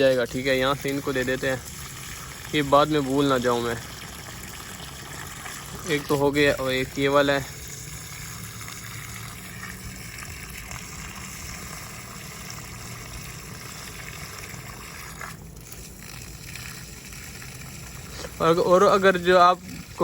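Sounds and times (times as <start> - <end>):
steady low hum: 0.0 - 20.0
water running from a hose: 0.0 - 20.0.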